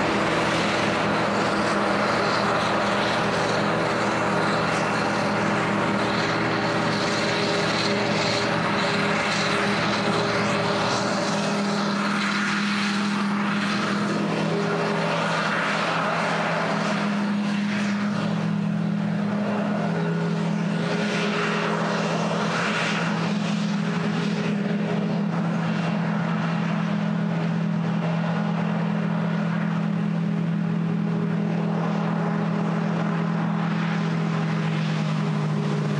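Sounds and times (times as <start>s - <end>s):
drone propellers humming: 0.0s - 35.9s.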